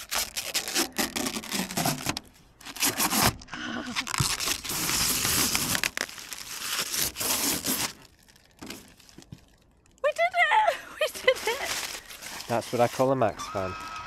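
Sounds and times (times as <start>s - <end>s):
plastic film crinkling and tearing: 0.0s - 14.0s.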